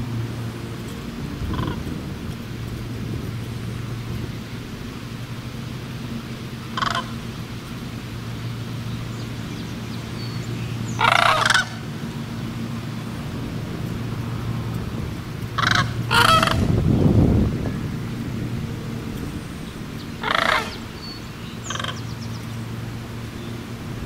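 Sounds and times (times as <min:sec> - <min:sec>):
crane calling: 0:00.0 - 0:24.0
low rumble: 0:00.0 - 0:24.0
steady low hum: 0:00.0 - 0:24.0.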